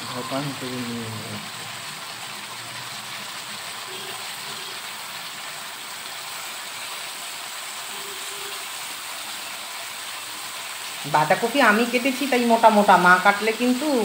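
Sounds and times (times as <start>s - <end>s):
vegetables sizzling in a wok: 0.0s - 14.0s.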